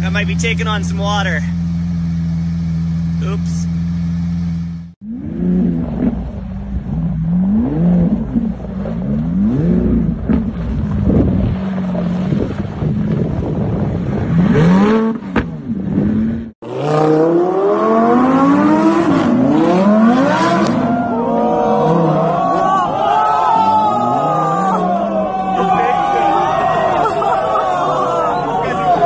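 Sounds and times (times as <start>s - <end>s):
car engine revving: 0.0s - 29.0s
second car engine revving: 0.0s - 29.0s.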